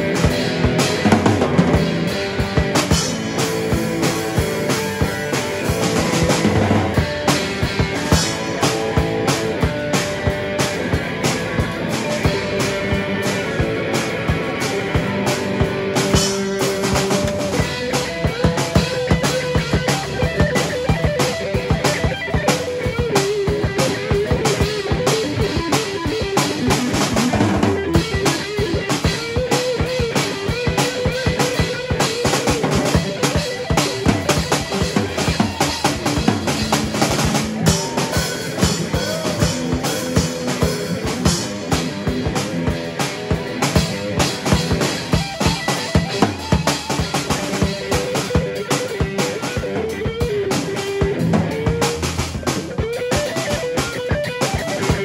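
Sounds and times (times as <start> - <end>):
busy drumming: 0.0 - 55.0
electric guitar bending notes: 0.0 - 55.0.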